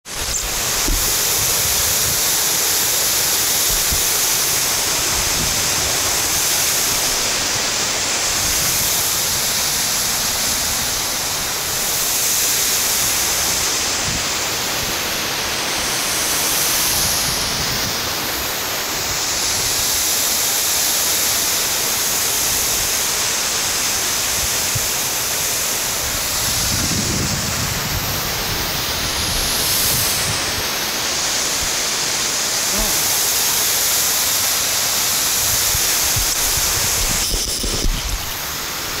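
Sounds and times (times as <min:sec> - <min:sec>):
waterfall rushing: 0:00.1 - 0:39.0.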